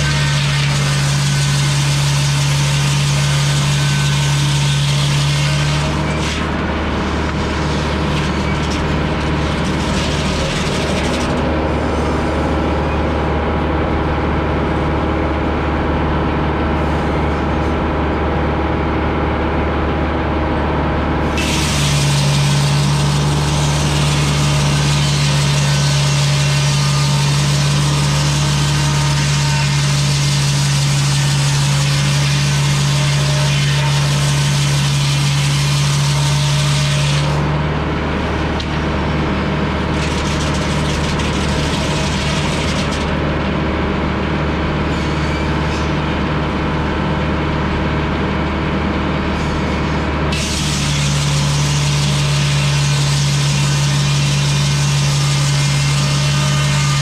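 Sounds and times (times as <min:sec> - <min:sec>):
circular saw cutting log: 0:00.0 - 0:15.0, 0:21.2 - 0:46.8, 0:49.3 - 0:57.0
diesel engine running: 0:00.0 - 0:54.1.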